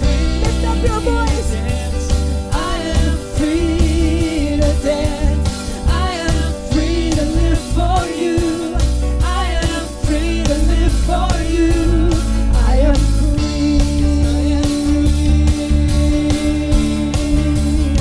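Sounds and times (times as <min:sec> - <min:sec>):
acoustic guitar: 0:00.0 - 0:18.0
steady drum beat: 0:00.0 - 0:18.0
women singing: 0:02.4 - 0:18.0.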